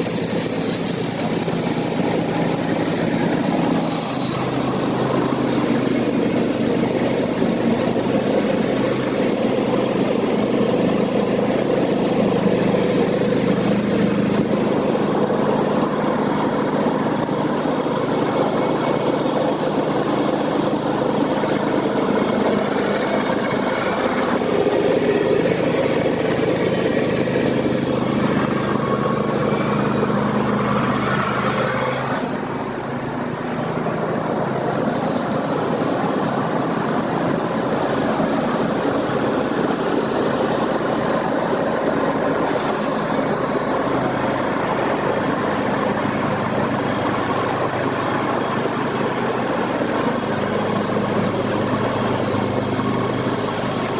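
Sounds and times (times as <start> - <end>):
engine humming: 0.0 - 53.9.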